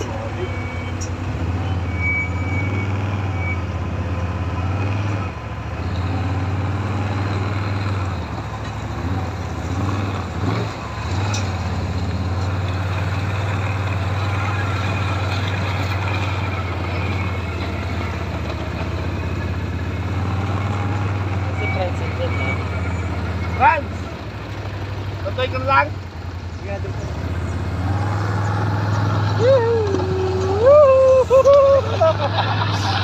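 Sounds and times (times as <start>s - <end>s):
atv engine running: 5.5s - 33.0s.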